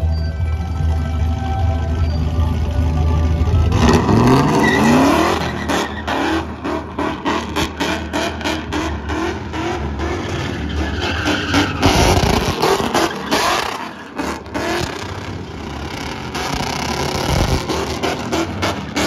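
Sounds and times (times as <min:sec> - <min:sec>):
pickup engine revving hard: 0:03.7 - 0:19.0.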